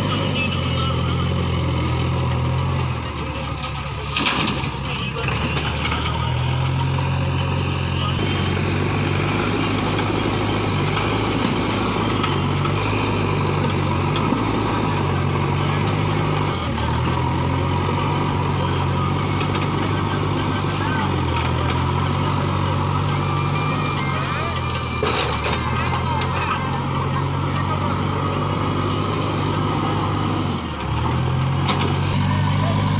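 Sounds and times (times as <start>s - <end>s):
backhoe diesel engine working: 0.0s - 32.9s
tractor diesel engine idling: 0.0s - 32.9s.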